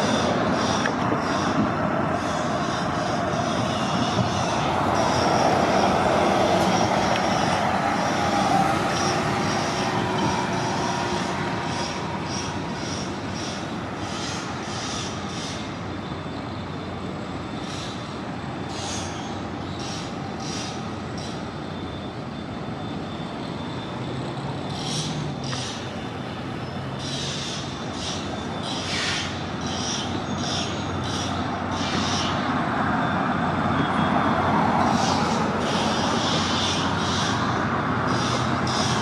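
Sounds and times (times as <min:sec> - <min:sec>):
bus engine passing: 0:00.0 - 0:39.0
high-pitched squeals: 0:00.0 - 0:39.0.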